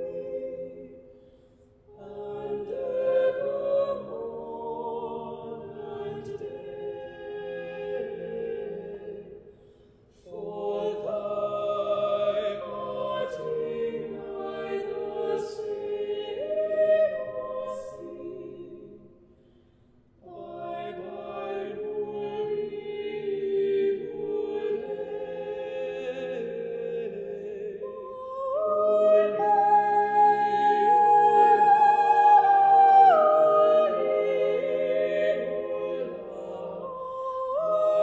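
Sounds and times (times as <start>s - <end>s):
choir singing a cappella: 0.0s - 19.2s, 20.2s - 38.0s.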